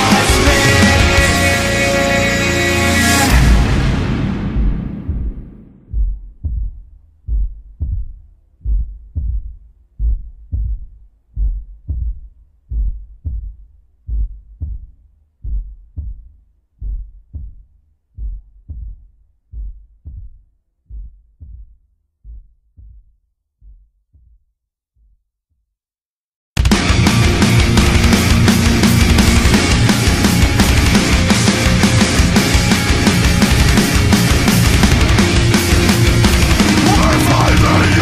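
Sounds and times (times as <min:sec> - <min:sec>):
heartbeat thumps: 0:03.4 - 0:25.2, 0:27.7 - 0:38.0.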